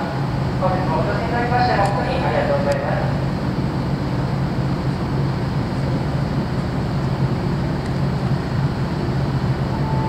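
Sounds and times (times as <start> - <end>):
noisy wash: 0.0 - 10.0
ship diesel machinery hum: 0.0 - 10.0.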